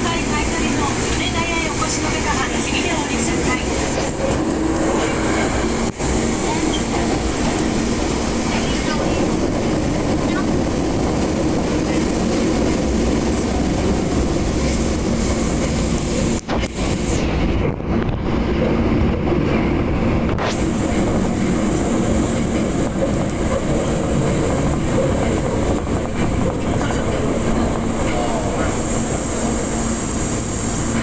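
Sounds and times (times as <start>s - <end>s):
high train whine: 0.0s - 31.0s
subway train rumble: 0.0s - 31.0s.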